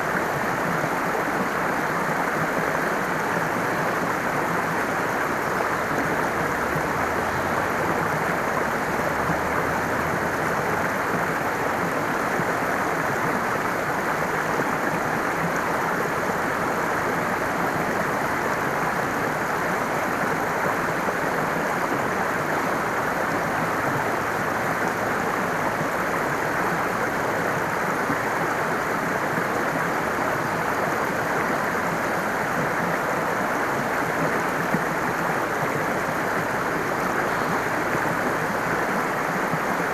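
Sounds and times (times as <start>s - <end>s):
water rushing steadily: 0.0s - 39.9s.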